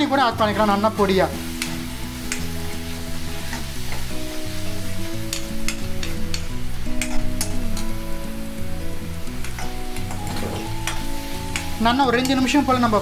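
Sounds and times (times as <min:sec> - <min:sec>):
food sizzling in hot oil: 0:00.0 - 0:13.0
soft background music: 0:00.0 - 0:13.0.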